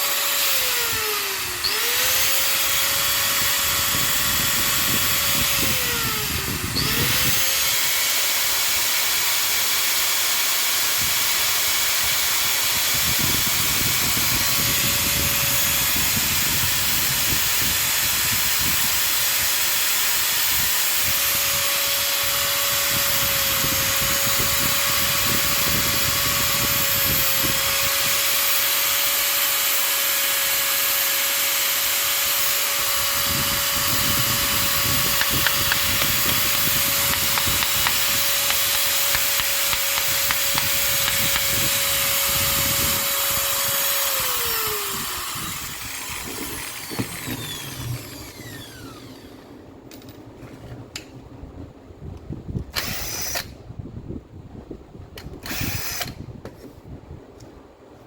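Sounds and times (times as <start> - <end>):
angle grinder whining: 0.0 - 49.6, 55.5 - 56.2.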